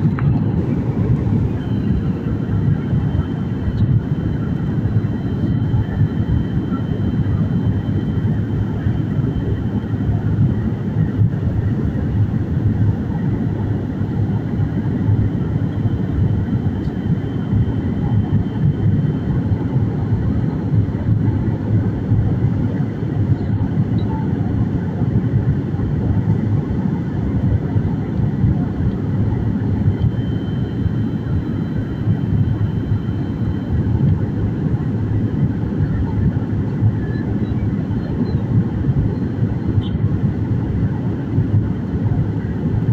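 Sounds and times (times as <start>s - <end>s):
faint high whine: 0.0s - 42.7s
airliner cabin rumble: 0.0s - 42.9s.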